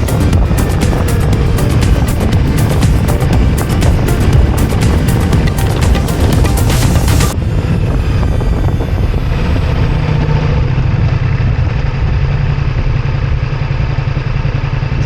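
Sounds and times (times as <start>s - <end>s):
wind noise: 0.0s - 12.6s
motorcycle engine rumble: 0.0s - 15.0s.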